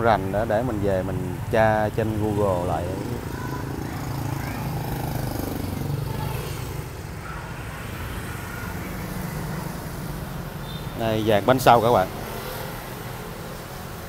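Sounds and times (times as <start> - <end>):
road noise: 0.0 - 14.0
traffic engine rumble: 0.0 - 14.0.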